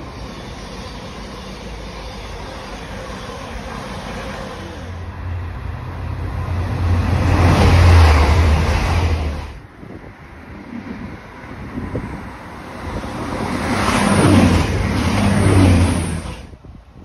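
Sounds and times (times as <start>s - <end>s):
diesel train rumbling past: 0.0s - 17.0s
train passing at speed: 0.0s - 17.0s.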